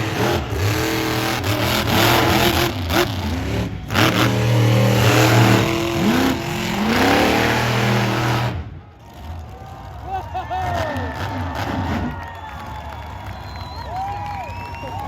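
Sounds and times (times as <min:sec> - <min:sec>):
truck engine revving: 0:00.0 - 0:12.2.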